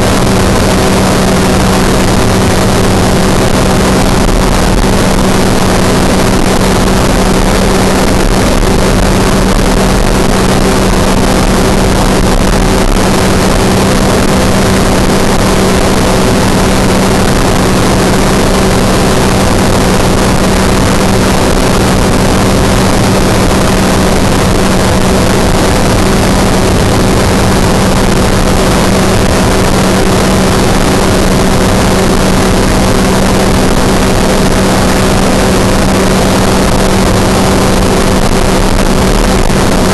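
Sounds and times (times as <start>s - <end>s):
engine and propeller droning: 0.0s - 39.9s.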